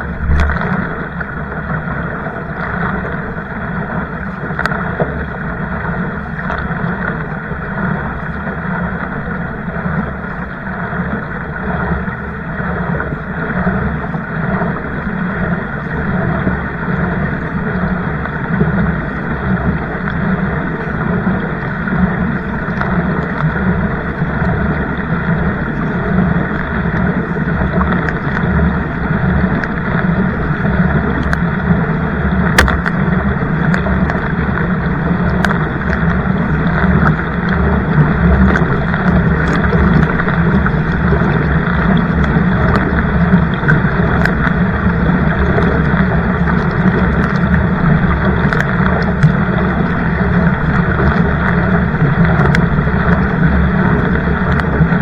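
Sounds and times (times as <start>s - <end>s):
rushing water and wind: 0.0s - 55.0s.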